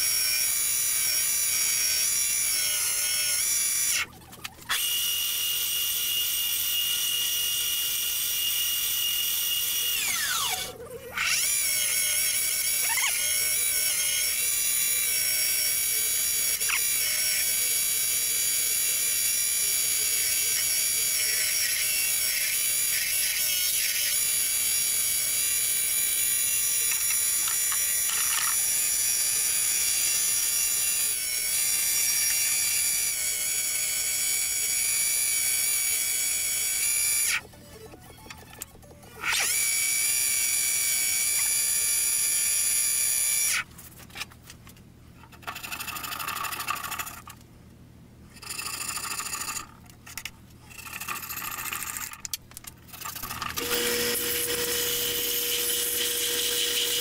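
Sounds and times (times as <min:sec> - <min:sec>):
wood lathe whining: 0:00.0 - 0:43.6, 0:52.9 - 0:57.0
turning tool cutting wood: 0:00.0 - 0:43.7, 0:45.3 - 0:47.4, 0:48.3 - 0:57.0.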